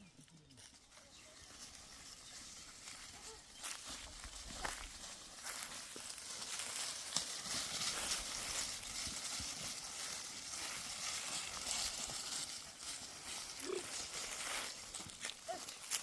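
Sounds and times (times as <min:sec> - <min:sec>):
rustling through grass: 0:00.1 - 0:16.0
sheep hoof steps: 0:00.5 - 0:16.0.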